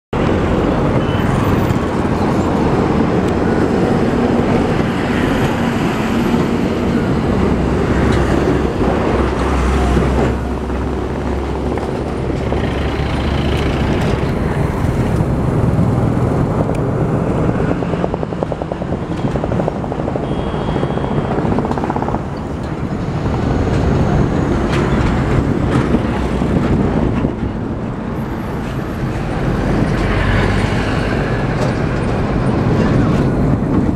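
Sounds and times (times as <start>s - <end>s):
outdoor noise: 0.1s - 33.9s
diesel locomotive engine rumbling: 0.2s - 33.9s.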